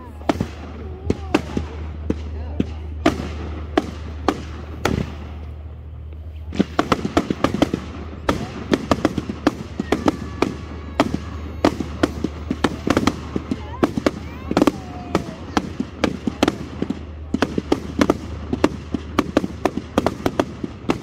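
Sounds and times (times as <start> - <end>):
crackling fireworks barrage: 0.0 - 21.0
fireworks bursting with bangs: 0.0 - 21.0.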